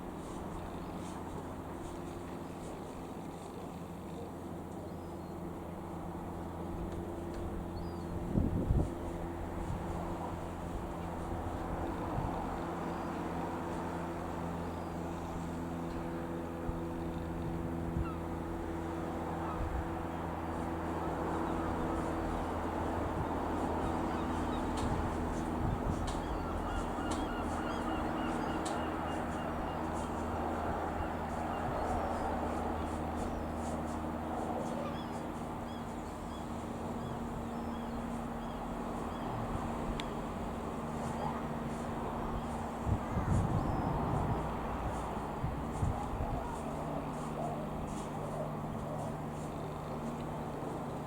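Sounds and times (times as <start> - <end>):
light aircraft engine droning: 0.0 - 51.0.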